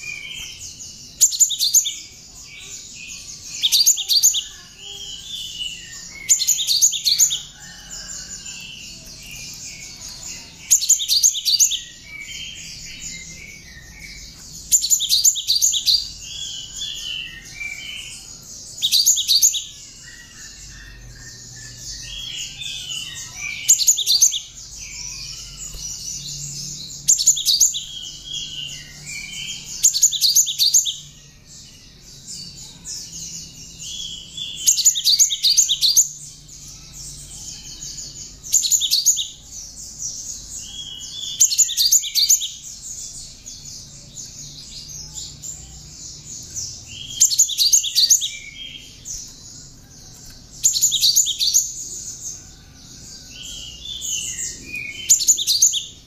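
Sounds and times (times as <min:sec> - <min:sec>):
bird singing rapid high chirps: 0:00.0 - 0:56.0.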